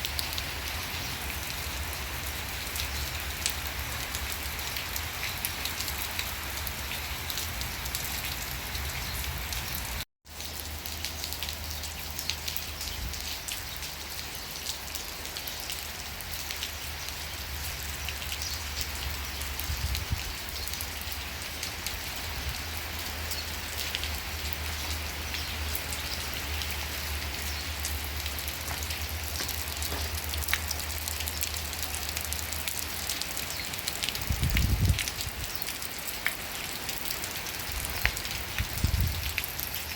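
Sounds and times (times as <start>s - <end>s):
rain drops ticking on a surface: 0.0s - 39.9s.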